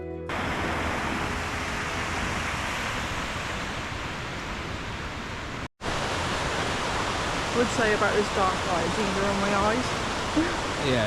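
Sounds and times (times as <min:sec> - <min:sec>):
stream water rushing: 0:00.3 - 0:11.0.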